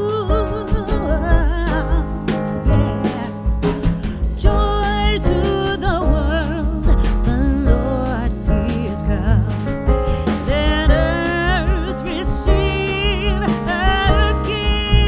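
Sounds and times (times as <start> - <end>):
song with vibrato singing: 0.0 - 15.0.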